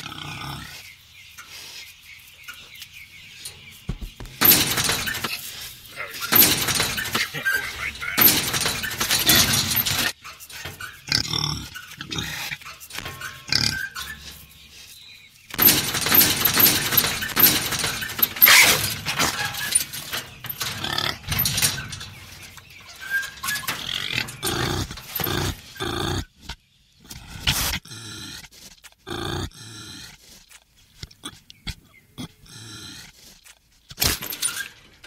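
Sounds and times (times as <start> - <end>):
farm animal calls: 0.0 - 28.4.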